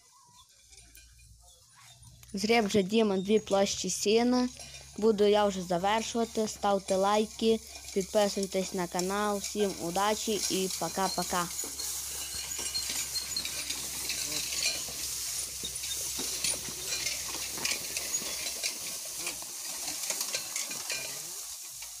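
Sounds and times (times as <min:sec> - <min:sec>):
dry hay rustling and crackling: 0:00.0 - 0:22.0
hay rake clicks and clinks: 0:00.0 - 0:22.0.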